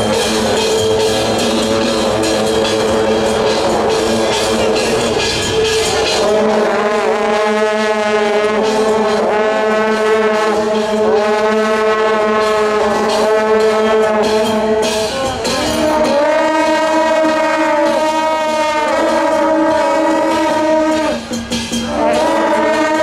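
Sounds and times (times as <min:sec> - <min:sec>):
long horns blowing a chord: 0:00.0 - 0:23.0.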